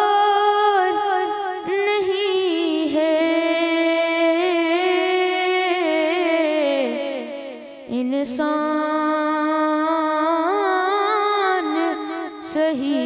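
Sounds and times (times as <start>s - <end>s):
boy singing into a microphone: 0.0s - 13.0s.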